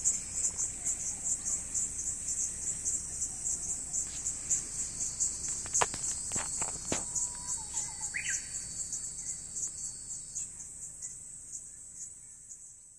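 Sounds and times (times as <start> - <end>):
insect chorus trilling: 0.0 - 12.9.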